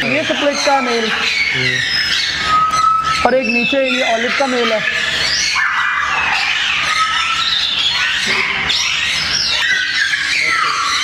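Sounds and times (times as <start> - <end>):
parrots squawking and screeching: 0.0 - 11.0.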